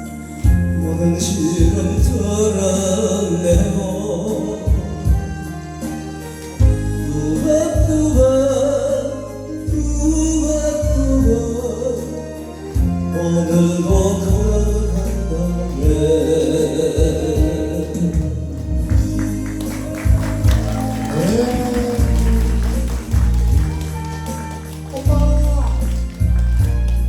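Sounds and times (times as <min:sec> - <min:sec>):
backing music with strong bass: 0:00.0 - 0:27.0
person singing: 0:00.3 - 0:26.7.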